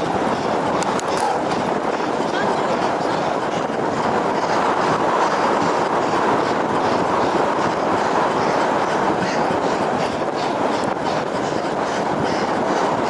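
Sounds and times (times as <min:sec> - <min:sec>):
bike tyres rushing: 0:00.0 - 0:13.0.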